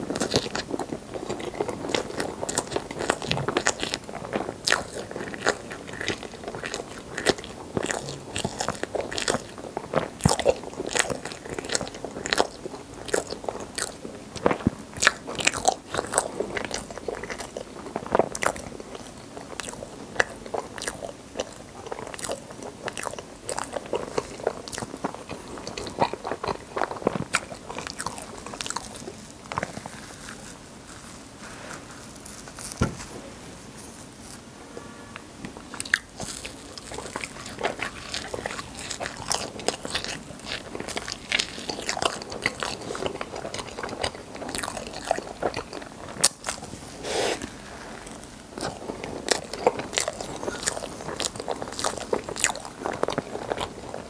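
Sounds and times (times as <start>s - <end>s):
close-up chewing with mouth smacks: 0.0s - 31.4s, 35.4s - 54.0s.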